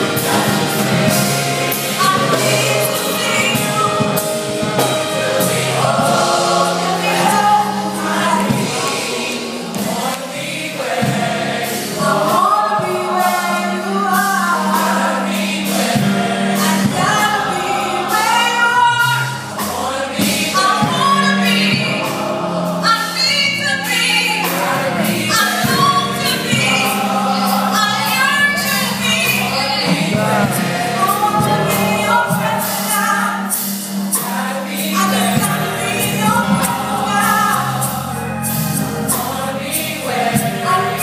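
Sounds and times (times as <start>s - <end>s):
women's gospel choir singing: 0.0s - 41.0s.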